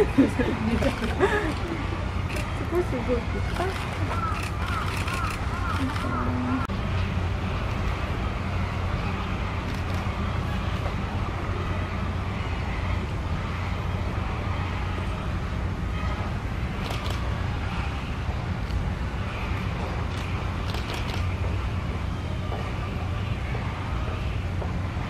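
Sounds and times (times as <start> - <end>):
low rumbling city background: 0.0 - 25.0.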